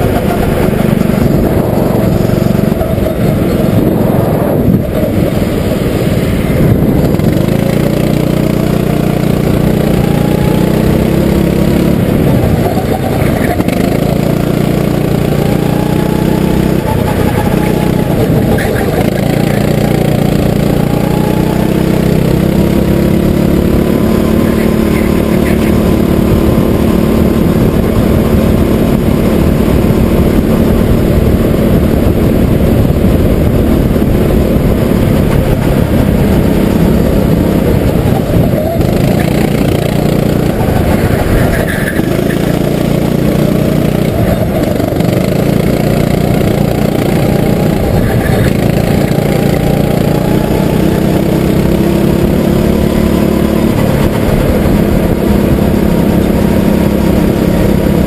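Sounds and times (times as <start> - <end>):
go-kart engine running hard: 0.0 - 58.0.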